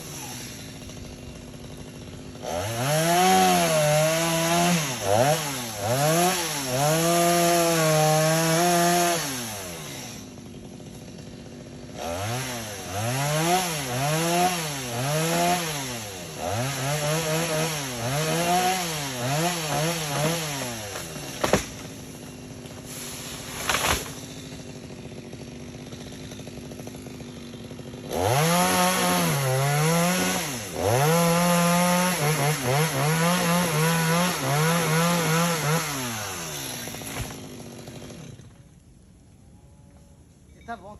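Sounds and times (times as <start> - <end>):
chainsaw revving and idling: 0.0 - 38.8.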